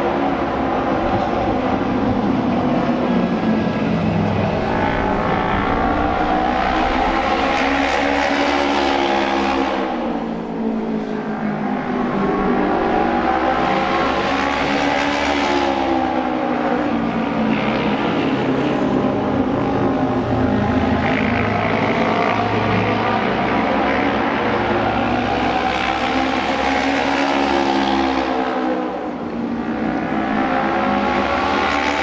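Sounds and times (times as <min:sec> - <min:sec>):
racing motorcycle engines: 0:00.0 - 0:32.0.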